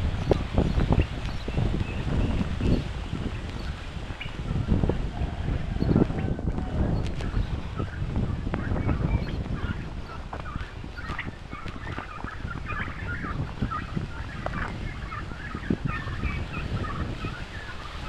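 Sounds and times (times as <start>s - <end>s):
poultry chattering calls: 0.2s - 18.0s.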